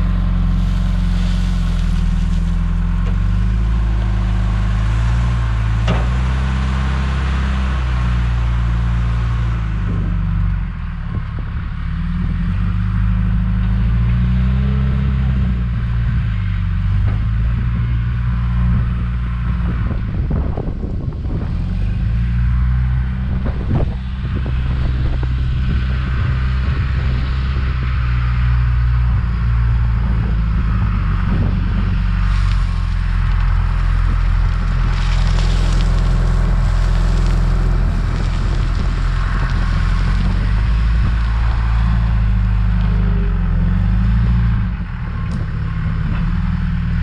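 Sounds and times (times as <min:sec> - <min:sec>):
backhoe diesel engine under load: 0:00.0 - 0:47.0.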